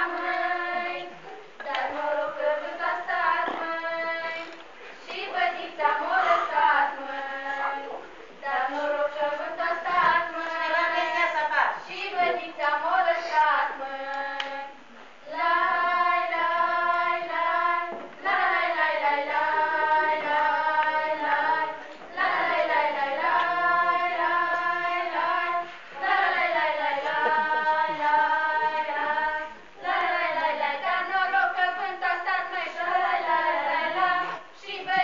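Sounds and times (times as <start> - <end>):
girls singing unaccompanied: 0.0 - 35.0.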